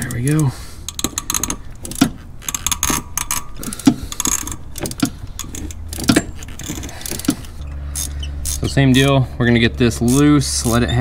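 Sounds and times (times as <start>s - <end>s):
metal hand tools clicking: 0.0s - 11.0s.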